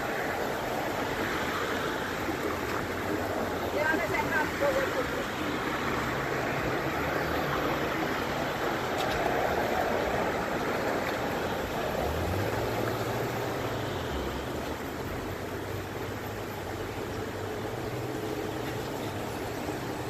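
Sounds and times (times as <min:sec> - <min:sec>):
passing vehicle engine hum: 0:00.0 - 0:20.0
road traffic noise: 0:00.0 - 0:20.0.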